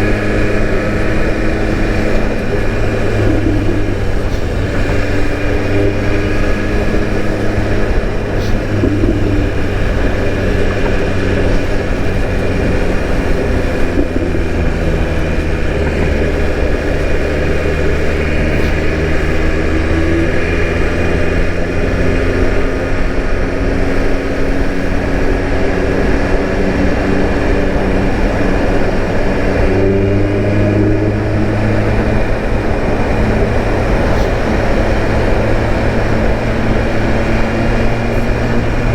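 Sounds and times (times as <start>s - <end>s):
motorcycle engine cruising: 0.0s - 38.9s
road noise: 0.0s - 38.9s
wind noise: 0.0s - 38.9s.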